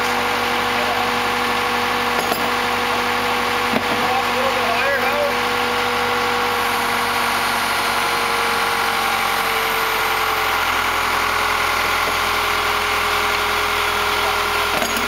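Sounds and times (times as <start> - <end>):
backhoe engine running: 0.0 - 15.0.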